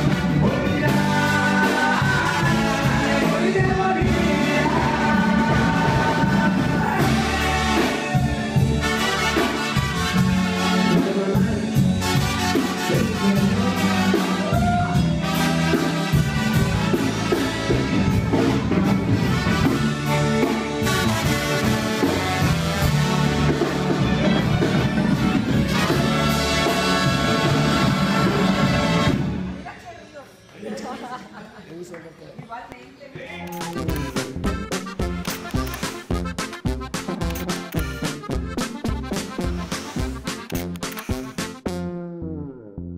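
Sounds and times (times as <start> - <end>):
brass band playing: 0.0 - 29.7, 33.6 - 42.5.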